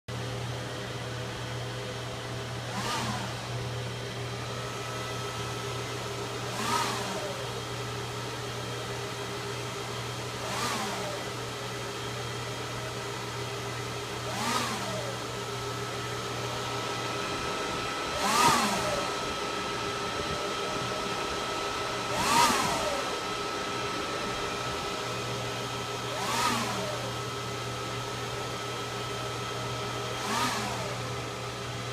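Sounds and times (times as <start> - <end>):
server humming: 0.1 - 31.9.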